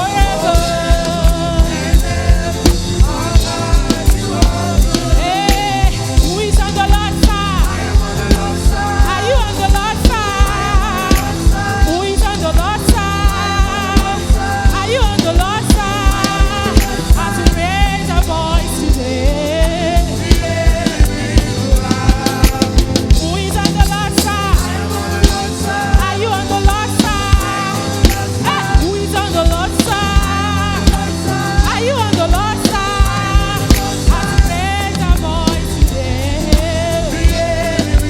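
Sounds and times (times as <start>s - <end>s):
gospel band playing: 0.0s - 38.0s
singing or lead melody: 0.0s - 38.0s.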